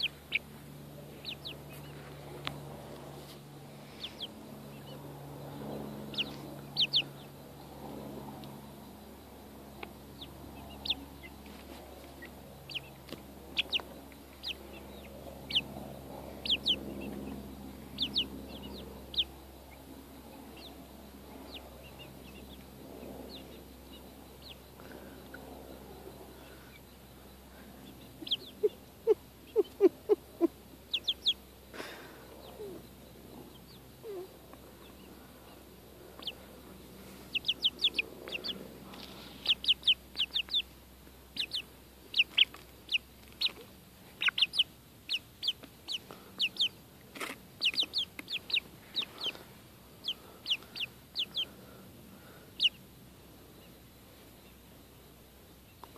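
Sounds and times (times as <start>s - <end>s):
chickens clucking: 0.0s - 7.4s, 9.8s - 20.8s, 21.4s - 53.0s
chicks peeping: 0.0s - 55.9s.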